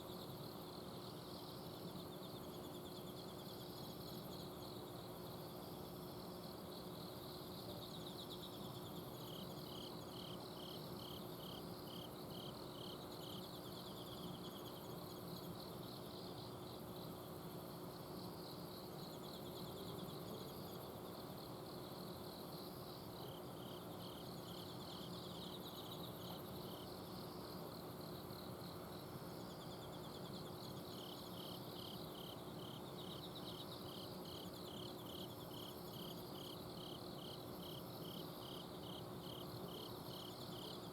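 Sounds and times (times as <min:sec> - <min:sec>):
insects chirping: 0:00.0 - 0:40.9
insects trilling: 0:00.1 - 0:40.9.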